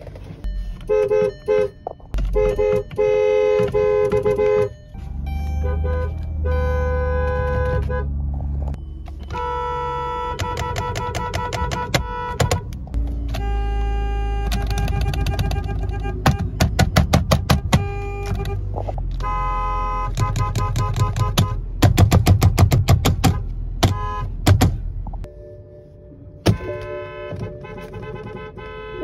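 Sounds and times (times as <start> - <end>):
car horns honking: 0.5 - 22.0, 23.0 - 25.6, 26.2 - 29.0.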